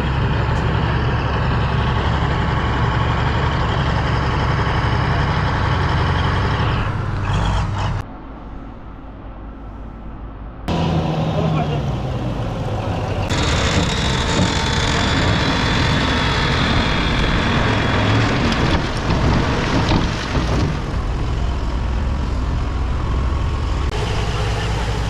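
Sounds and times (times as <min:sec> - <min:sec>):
bulldozer diesel engine running: 0:00.0 - 0:08.0, 0:10.7 - 0:25.0.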